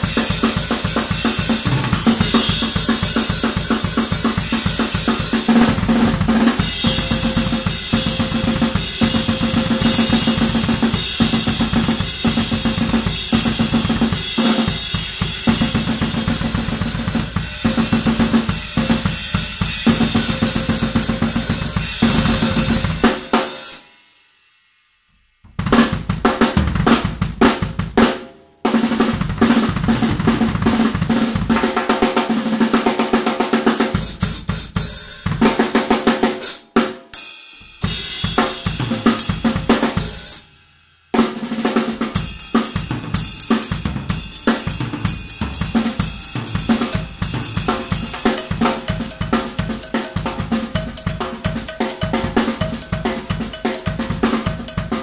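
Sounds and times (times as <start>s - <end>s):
drum kit played with sticks: 0.0s - 24.3s, 25.4s - 55.0s.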